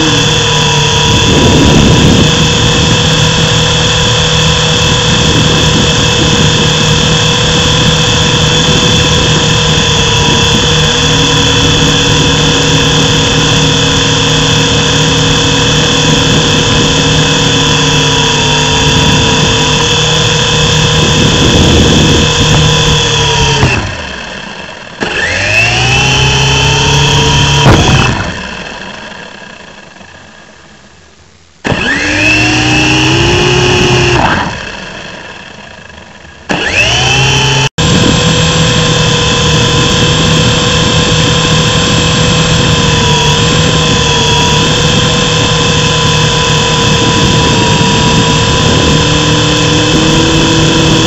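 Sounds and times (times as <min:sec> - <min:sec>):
rc helicopter motor whining: 0:00.0 - 0:30.9, 0:31.6 - 0:51.0.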